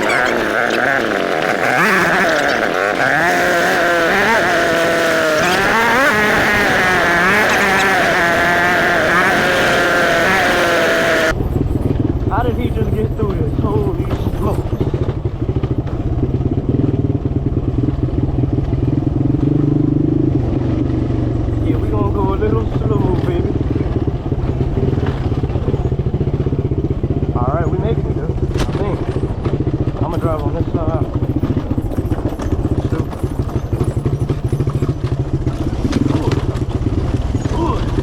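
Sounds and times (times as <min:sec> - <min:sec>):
small vehicle engine running: 0:00.0 - 0:38.0.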